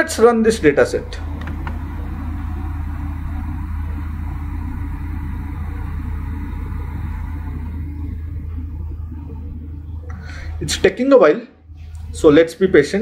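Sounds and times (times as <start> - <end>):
faint rumbling: 0.0 - 13.0
low hum: 0.0 - 13.0.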